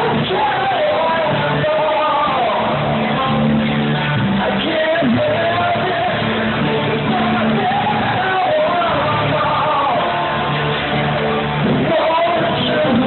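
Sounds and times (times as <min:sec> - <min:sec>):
electric bass: 0:00.0 - 0:13.0
man singing: 0:00.0 - 0:13.0
strummed acoustic guitar: 0:00.0 - 0:13.0.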